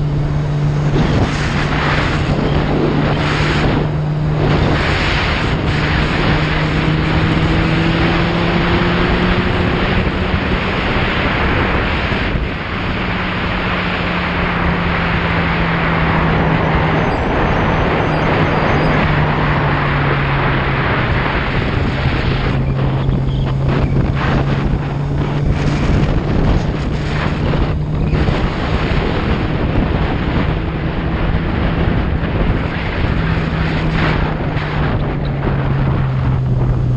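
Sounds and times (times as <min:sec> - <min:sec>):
motorcycle engine running: 0:00.0 - 0:36.9
wind rushing over microphone: 0:00.0 - 0:36.9.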